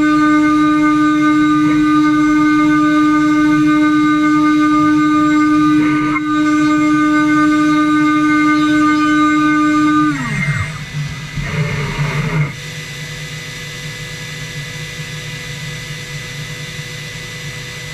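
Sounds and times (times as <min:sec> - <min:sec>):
machine hum: 0:00.0 - 0:17.9
router spindle whining: 0:00.0 - 0:17.9.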